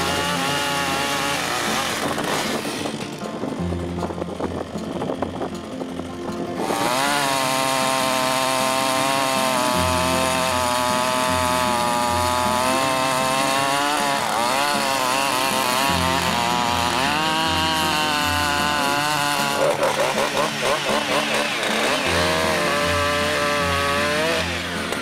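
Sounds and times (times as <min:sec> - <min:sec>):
chainsaw cutting through log: 0:00.0 - 0:25.0.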